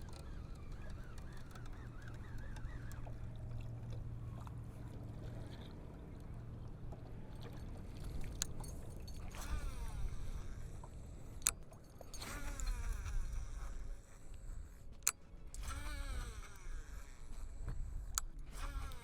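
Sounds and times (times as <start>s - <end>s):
boat engine hum: 0.0s - 19.0s.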